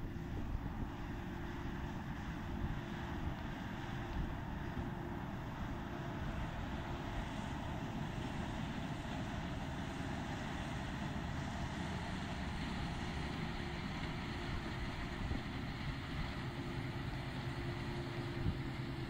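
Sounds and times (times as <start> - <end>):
combine harvester running: 0.0 - 19.0
steady hum: 0.0 - 19.0.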